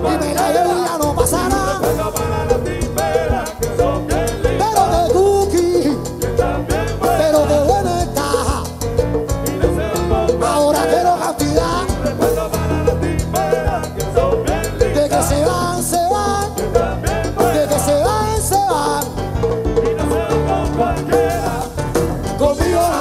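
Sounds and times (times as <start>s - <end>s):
salsa band playing: 0.0s - 23.0s
vocalists singing: 0.0s - 23.0s.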